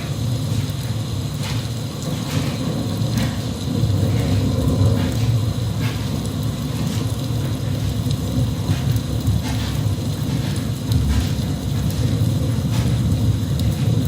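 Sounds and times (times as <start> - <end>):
continuous low rumble: 0.0 - 14.0
steady rain: 0.0 - 14.0.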